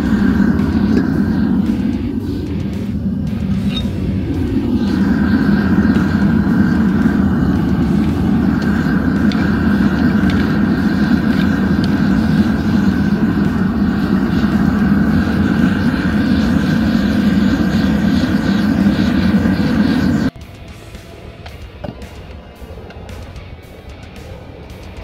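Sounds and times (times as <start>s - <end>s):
gas burner rushing: 0.0s - 20.4s.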